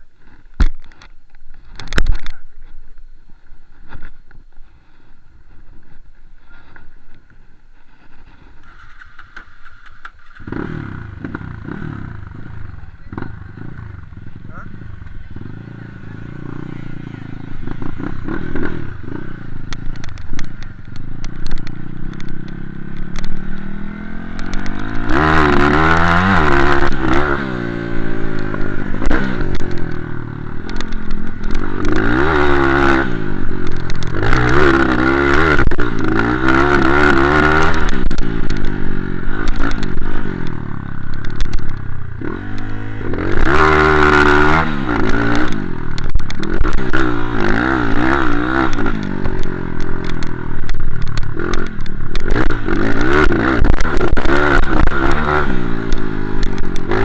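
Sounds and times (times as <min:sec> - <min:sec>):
motocross engine revving: 0:07.8 - 0:57.0.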